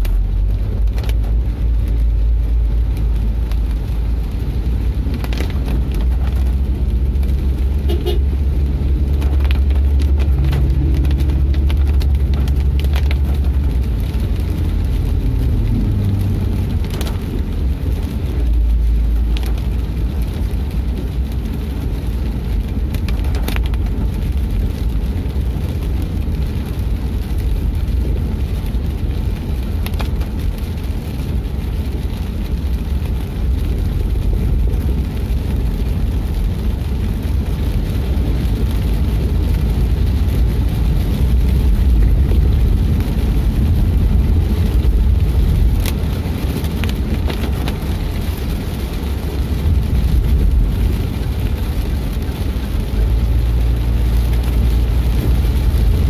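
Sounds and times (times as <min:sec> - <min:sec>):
engine and tyres rumbling: 0:00.0 - 0:56.0.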